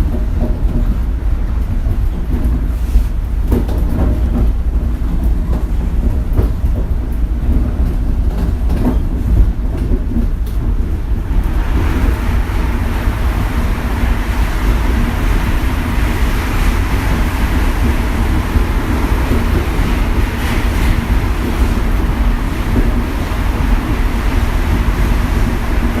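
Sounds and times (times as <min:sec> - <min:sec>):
monorail low rumble: 0:00.0 - 0:26.0.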